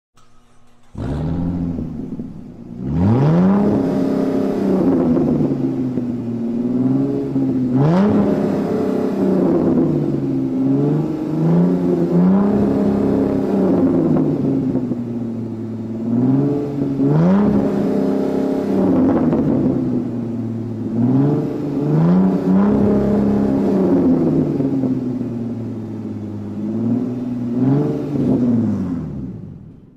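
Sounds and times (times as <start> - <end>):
car engine revving: 0.2 - 29.9.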